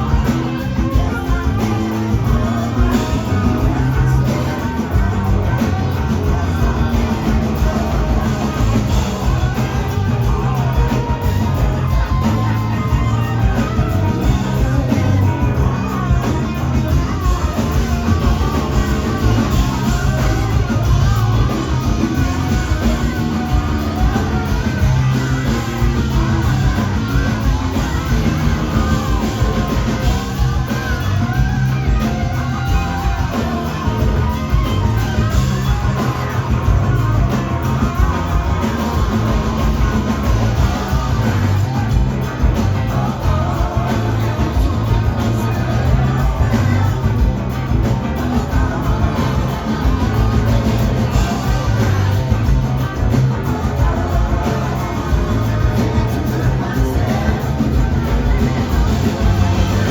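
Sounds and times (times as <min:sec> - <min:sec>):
electric guitar: 0:00.0 - 0:59.9
live rock band playing: 0:00.0 - 0:59.9
person singing: 0:00.0 - 0:59.9.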